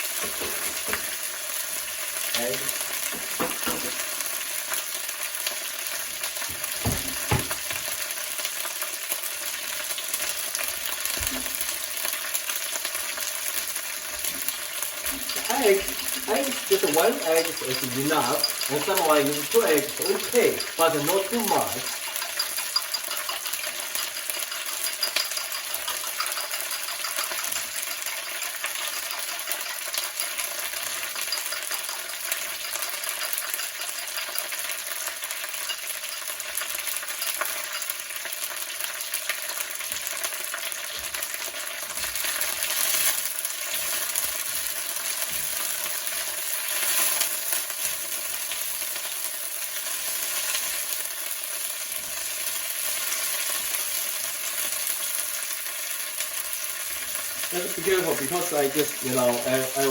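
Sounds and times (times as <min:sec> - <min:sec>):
leaves sizzling in hot oil: 0:00.0 - 0:59.9.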